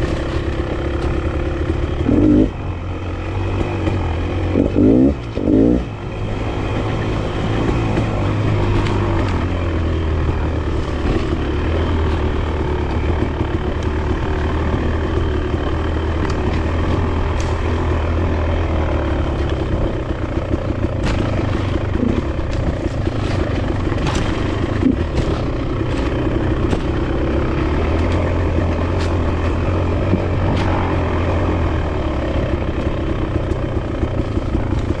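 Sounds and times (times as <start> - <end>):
dirt bike engine running: 0.0 - 35.0
sharp ticks and knocks: 0.0 - 35.0.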